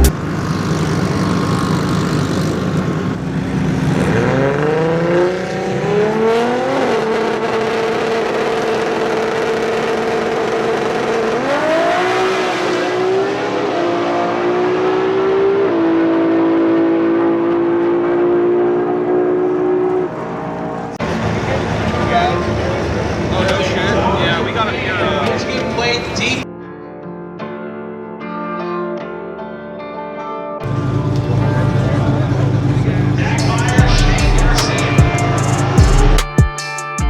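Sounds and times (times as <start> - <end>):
performance car engines accelerating: 0.0 - 26.4, 30.6 - 36.4.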